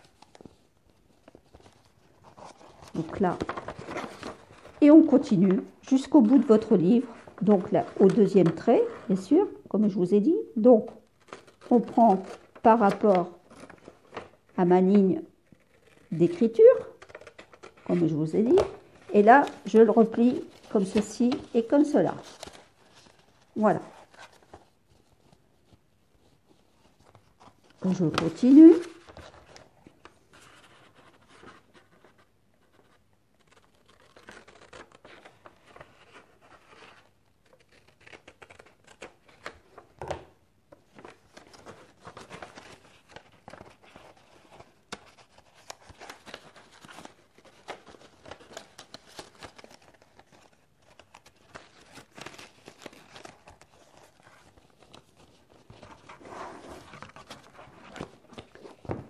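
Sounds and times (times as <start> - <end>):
book pages turning and rustling: 0.0 - 9.2, 10.8 - 59.0.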